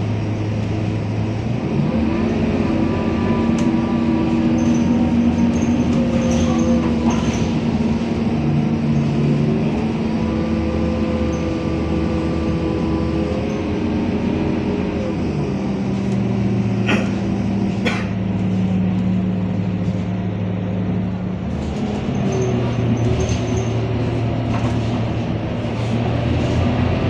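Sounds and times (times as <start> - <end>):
bus diesel engine drone: 0.0 - 27.0.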